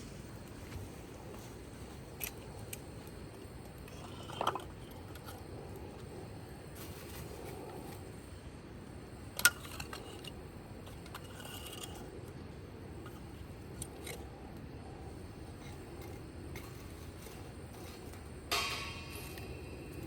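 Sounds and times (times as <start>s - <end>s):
fire popping: 0.0s - 20.0s
steady low background noise: 0.0s - 20.0s
wood fire crackling: 0.0s - 20.0s.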